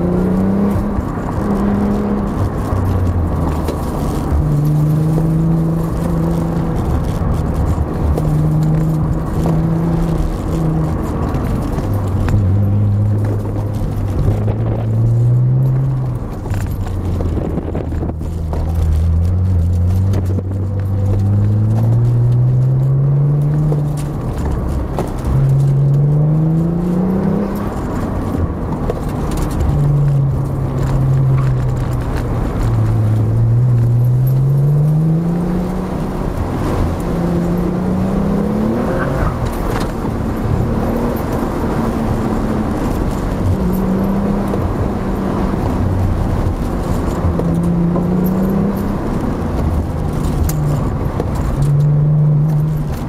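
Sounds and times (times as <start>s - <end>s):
car engine revving under acceleration: 0.0s - 53.0s.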